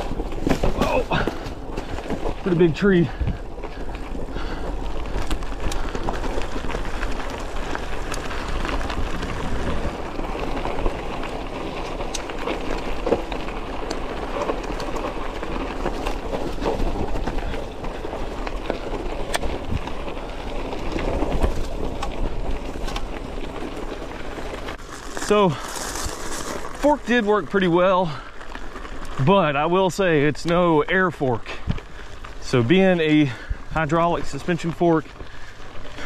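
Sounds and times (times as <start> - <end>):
bike rattling over bumps: 0.0 - 36.0
bike tyres rolling over dirt: 0.0 - 36.0.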